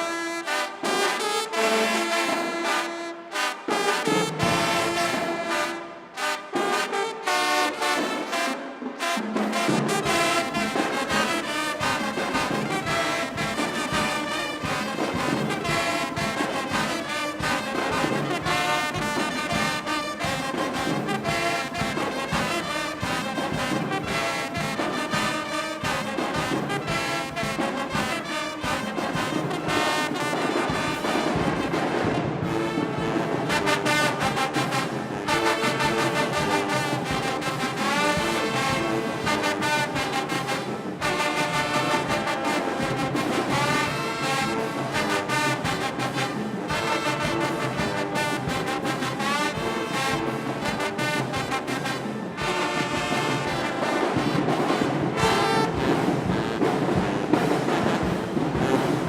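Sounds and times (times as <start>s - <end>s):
marching band brass chords: 0.0s - 59.0s
steady drum beat: 4.0s - 59.0s.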